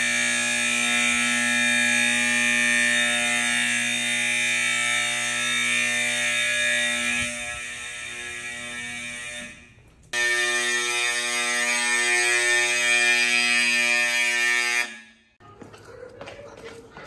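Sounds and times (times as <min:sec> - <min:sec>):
fire alarm horn blaring: 0:00.0 - 0:15.4.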